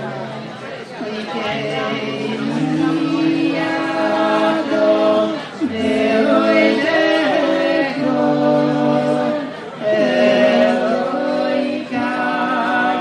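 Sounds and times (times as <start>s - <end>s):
male trio singing in harmony: 0.0s - 13.0s.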